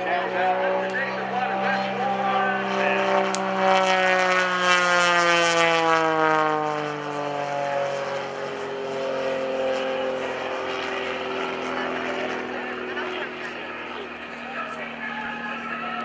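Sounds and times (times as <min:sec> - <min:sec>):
biplane engine and propeller: 0:00.0 - 0:16.0.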